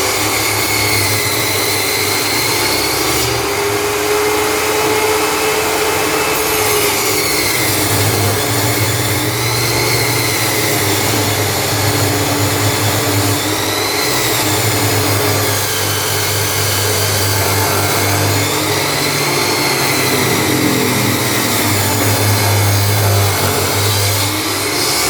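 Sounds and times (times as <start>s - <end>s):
table saw cutting wood: 0.0s - 25.0s.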